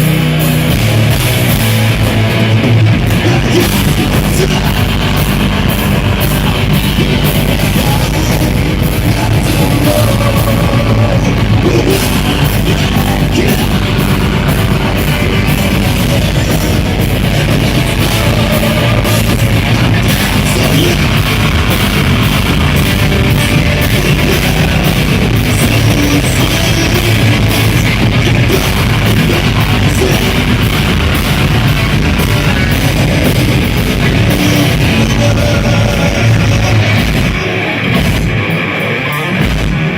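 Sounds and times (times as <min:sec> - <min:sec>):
rock band playing loudly: 0:00.0 - 0:39.9.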